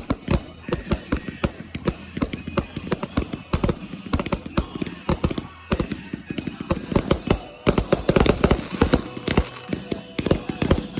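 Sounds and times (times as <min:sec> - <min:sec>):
fireworks bangs and pops: 0:00.0 - 0:10.9.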